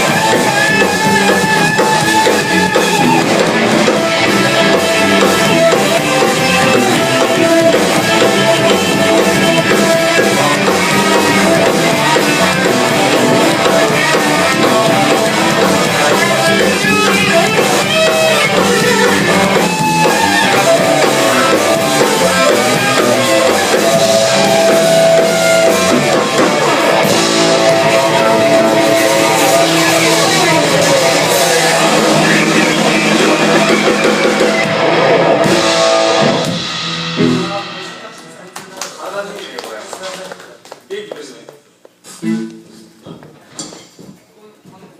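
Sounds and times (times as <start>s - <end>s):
guitar: 0.0s - 39.7s, 42.0s - 44.2s
drum kit: 0.0s - 39.8s, 42.2s - 43.0s
band playing live: 0.0s - 39.9s, 42.2s - 43.0s.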